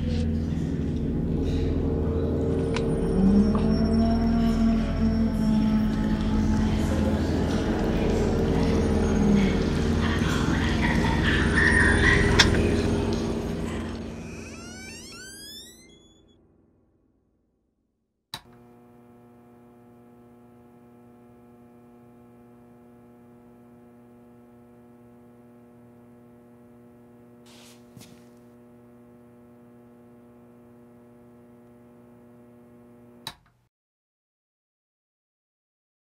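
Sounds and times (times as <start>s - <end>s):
electrical hum: 0.0s - 16.4s, 18.4s - 33.2s.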